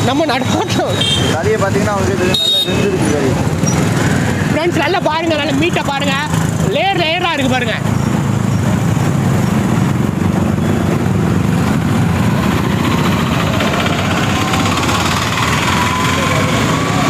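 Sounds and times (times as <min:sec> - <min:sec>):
road traffic: 0:00.0 - 0:17.0
vehicle engines running: 0:00.0 - 0:17.0.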